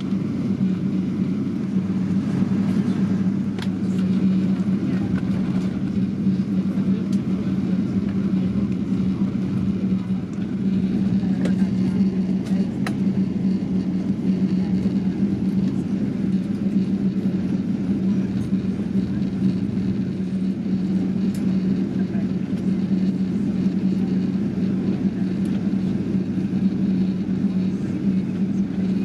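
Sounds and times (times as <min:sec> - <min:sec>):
steady low hum: 0:00.0 - 0:29.0
vehicle cabin rumble: 0:00.0 - 0:29.0.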